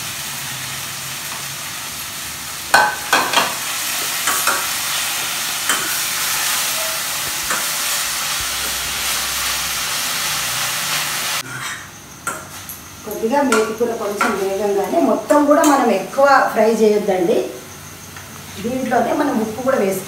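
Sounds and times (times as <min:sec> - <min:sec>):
leaves sizzling in hot oil: 0:00.0 - 0:20.0.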